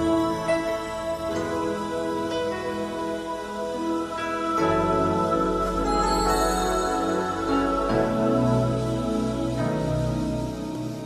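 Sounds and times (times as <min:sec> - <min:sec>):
slow music with held chords: 0:00.0 - 0:11.0.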